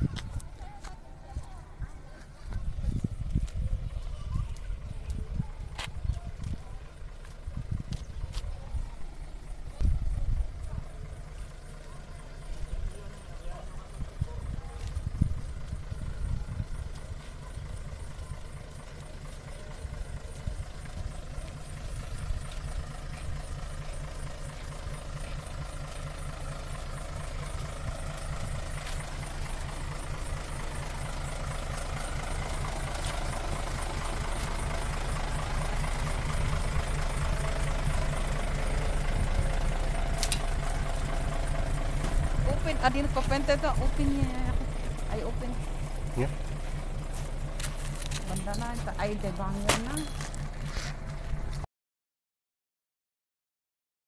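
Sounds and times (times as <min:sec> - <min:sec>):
truck engine idling: 0:00.0 - 0:51.7.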